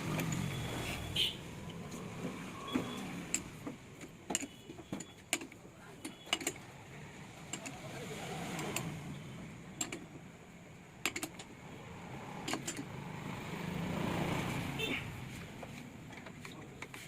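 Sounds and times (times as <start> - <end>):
passing road traffic: 0.0 - 17.0.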